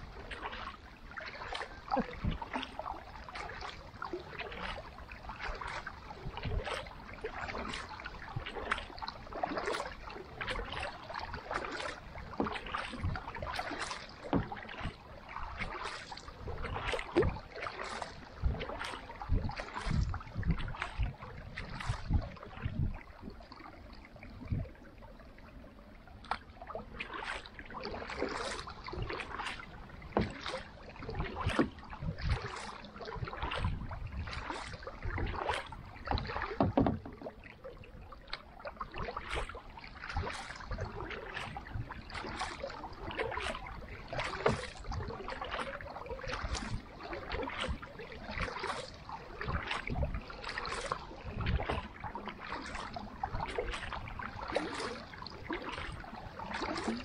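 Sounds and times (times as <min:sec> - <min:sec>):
water running off paddle: 0:00.0 - 0:25.0, 0:26.2 - 0:57.0
paddle splashing through water: 0:00.0 - 0:57.0.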